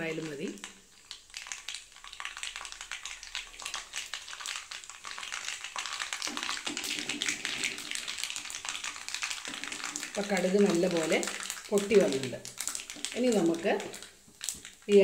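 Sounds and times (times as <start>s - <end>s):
seeds popping in hot oil: 0.0s - 15.0s.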